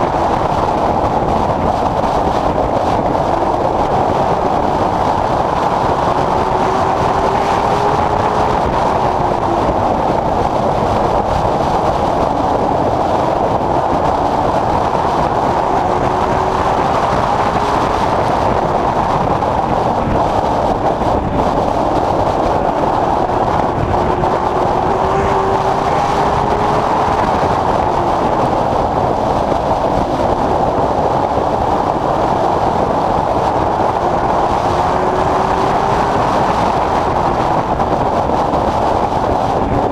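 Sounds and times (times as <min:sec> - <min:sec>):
race car engine at speed: 0:00.0 - 0:39.9
road and wind noise: 0:00.0 - 0:39.9.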